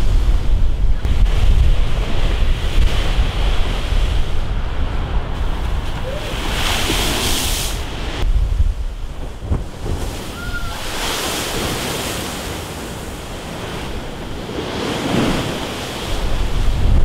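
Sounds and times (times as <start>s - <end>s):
surf breaking against sea wall: 0.0s - 17.0s
wind buffeting microphone: 0.0s - 17.0s
wave splashing with hiss: 1.1s - 8.4s, 9.1s - 17.0s.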